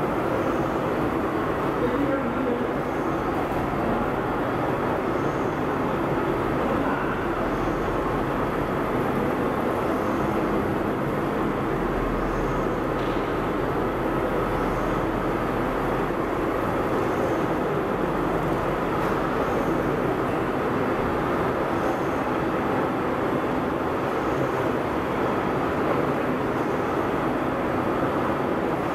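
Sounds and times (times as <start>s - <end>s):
factory machinery drone: 0.0s - 28.9s.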